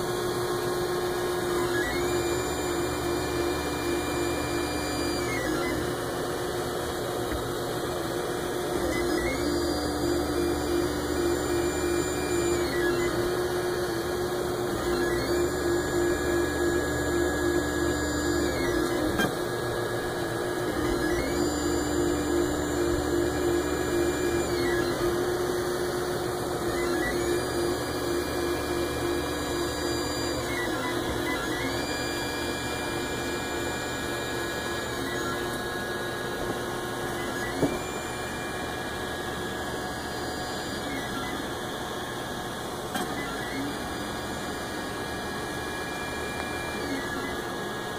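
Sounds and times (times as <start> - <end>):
stepper motors whining: 0.8 - 47.9.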